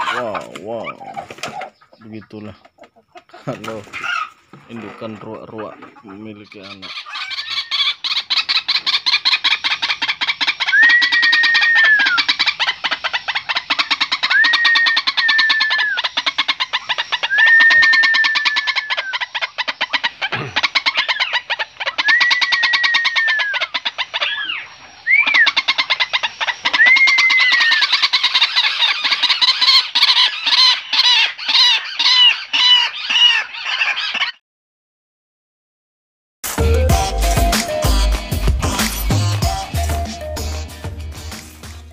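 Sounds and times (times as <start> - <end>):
waterhens calling: 0.0 - 34.4.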